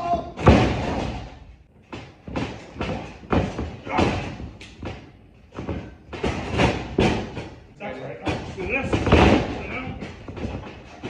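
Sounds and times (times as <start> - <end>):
bodies thumping on wrestling mat: 0.4 - 7.6, 8.3 - 11.0.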